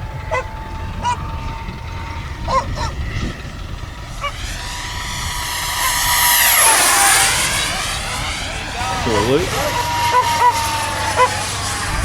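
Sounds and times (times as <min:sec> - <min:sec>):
low wind rumble: 0:00.0 - 0:12.0
model jet fan whining: 0:00.0 - 0:12.0.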